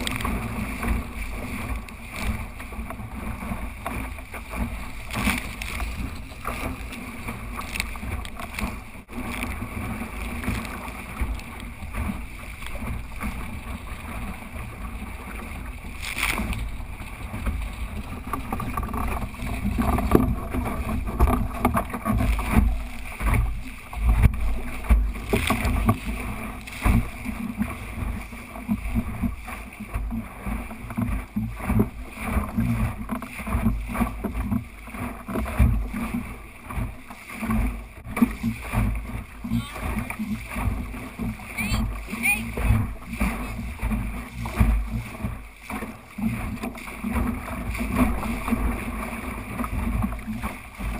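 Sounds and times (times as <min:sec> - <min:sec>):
water slapping along hull: 0:00.0 - 0:50.9.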